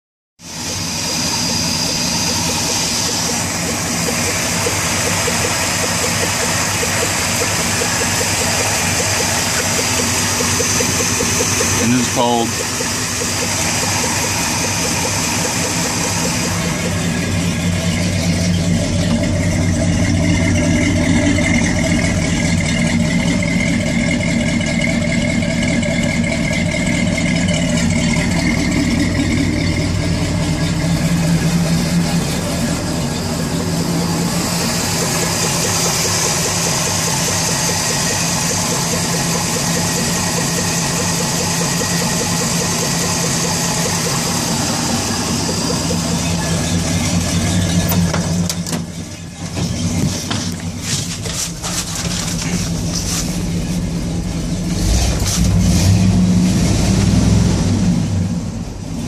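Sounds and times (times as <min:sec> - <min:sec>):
engine idling: 0:00.4 - 0:59.0.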